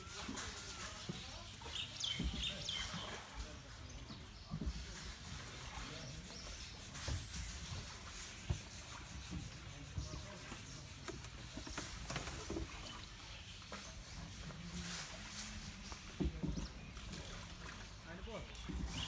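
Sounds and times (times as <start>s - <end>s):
paddle in water: 0.0s - 19.0s.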